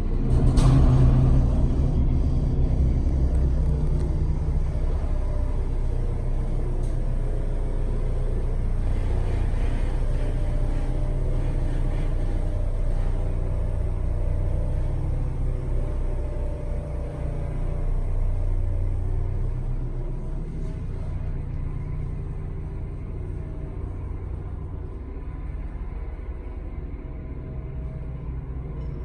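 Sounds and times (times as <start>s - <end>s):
elevator motor rumble and hum: 0.0s - 29.0s.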